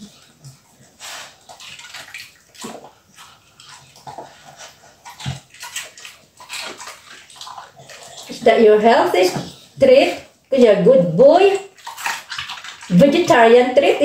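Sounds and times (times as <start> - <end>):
dog chewing and licking: 0.0 - 9.8, 11.4 - 14.0.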